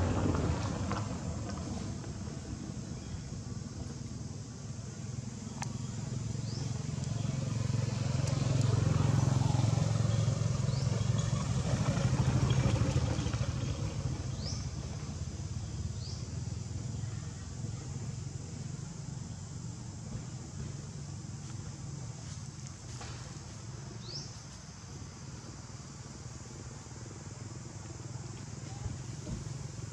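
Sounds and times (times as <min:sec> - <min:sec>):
vehicle engine rumble passing: 0:00.0 - 0:29.9.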